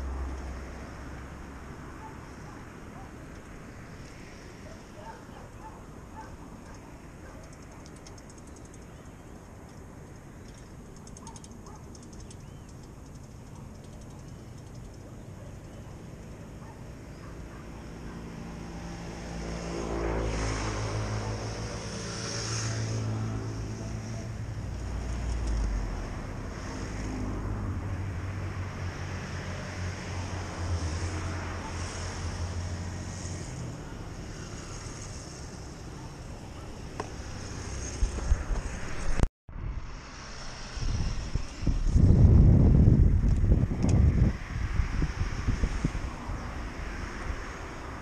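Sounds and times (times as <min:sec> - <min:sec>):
traffic passing on a bridge: 0:00.0 - 0:48.0.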